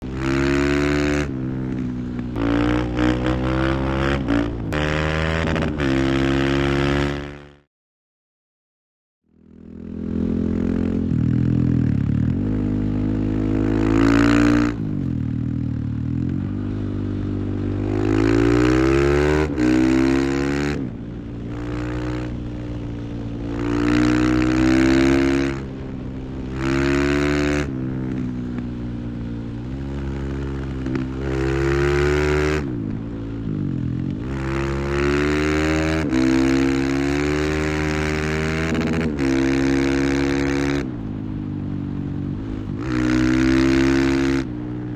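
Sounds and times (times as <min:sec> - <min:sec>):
motorcycle engine revving hard: 0:00.0 - 0:07.6, 0:09.9 - 0:28.3, 0:30.0 - 0:32.9, 0:33.5 - 0:40.9, 0:42.4 - 0:44.9.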